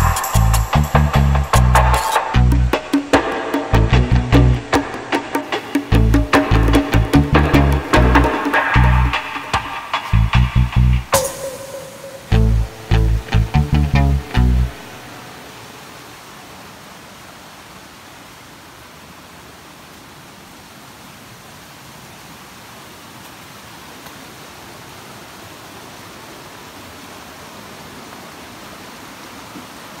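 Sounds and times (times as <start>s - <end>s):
stream rushing over boulders: 1.9s - 30.0s.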